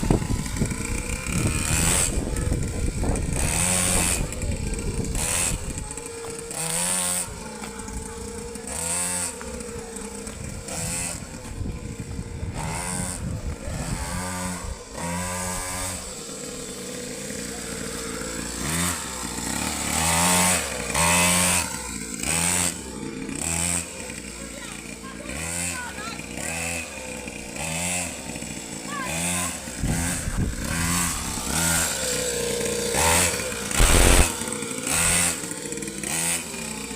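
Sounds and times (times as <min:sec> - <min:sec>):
motocross bike engine revving: 0:00.0 - 0:36.9.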